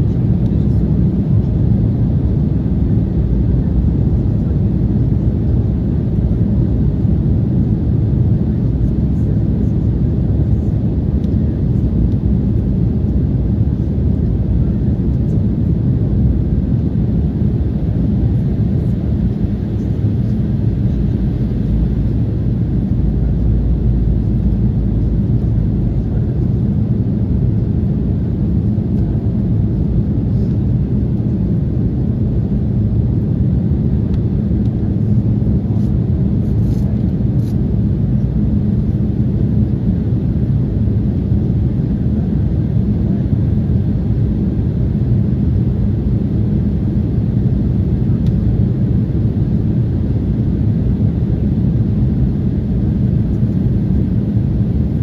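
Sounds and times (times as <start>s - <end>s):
jet cabin rumble: 0.0s - 55.0s.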